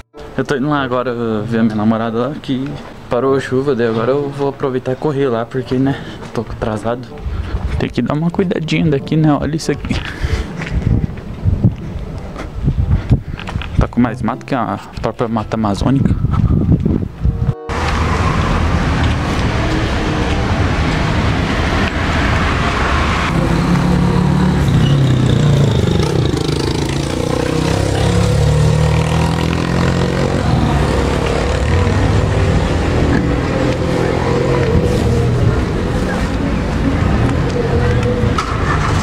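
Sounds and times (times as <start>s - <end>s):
steady traffic rumble: 0.0s - 39.0s
vehicles passing: 0.2s - 15.0s, 15.8s - 39.0s.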